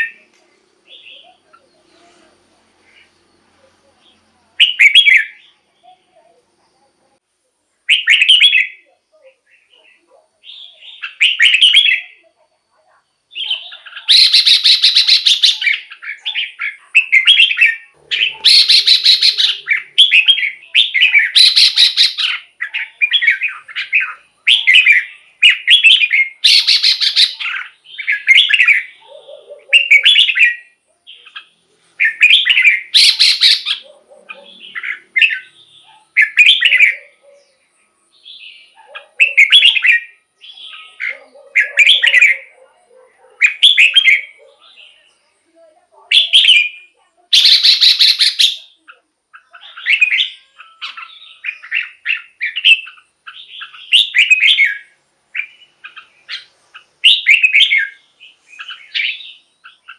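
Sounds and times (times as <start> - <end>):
bird singing warbled phrases: 0.0 - 7.2, 7.8 - 59.9.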